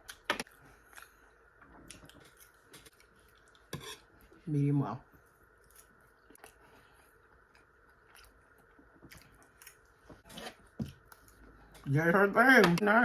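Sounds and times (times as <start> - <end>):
faint chewing: 0.0 - 4.4, 5.1 - 11.9.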